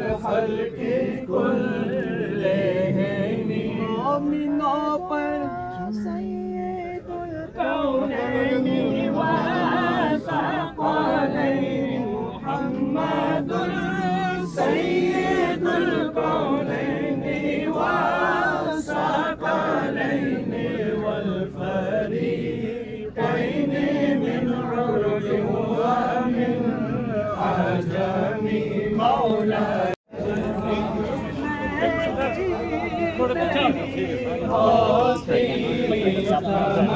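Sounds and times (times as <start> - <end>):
voices chanting together: 0.0 - 36.9.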